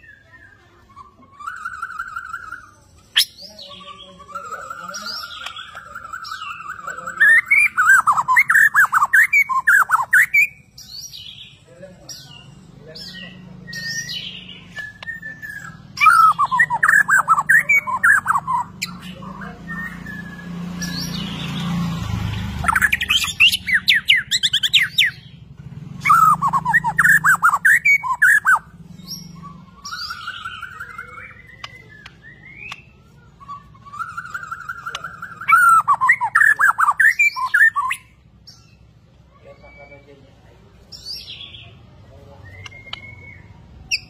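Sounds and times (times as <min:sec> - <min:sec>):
bird singing whistled phrases: 0:00.0 - 0:11.1, 0:13.0 - 0:21.6, 0:22.6 - 0:25.4, 0:26.0 - 0:38.8, 0:42.4 - 0:44.0.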